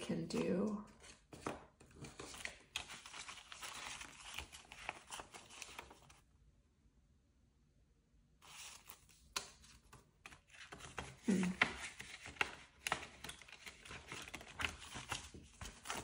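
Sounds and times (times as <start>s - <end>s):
paper money rustling: 0.1s - 6.2s, 8.4s - 16.0s
pages being turned: 0.3s - 6.2s, 8.4s - 16.0s.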